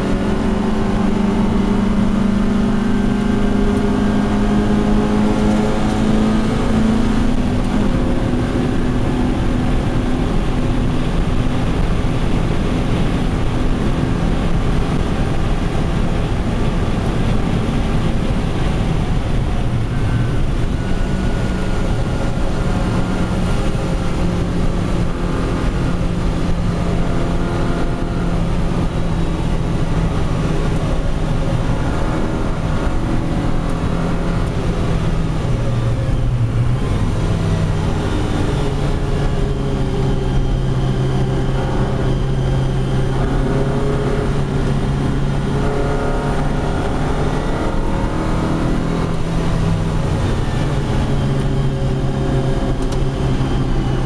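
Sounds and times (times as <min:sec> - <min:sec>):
car engine under load: 0:00.0 - 0:54.0
road and tyre noise on wet surface: 0:00.0 - 0:54.0.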